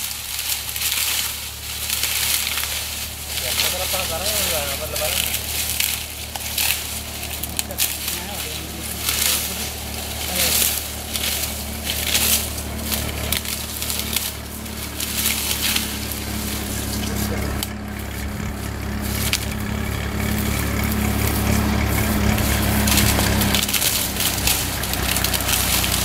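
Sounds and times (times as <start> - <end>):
dry cane leaves crackling: 0.0 - 26.0
low hum: 0.0 - 26.0.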